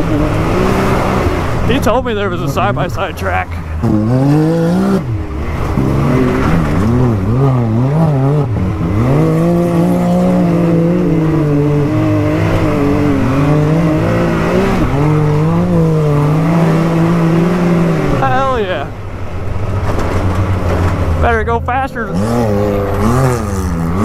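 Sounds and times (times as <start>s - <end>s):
engine revving while driving: 0.0s - 24.0s.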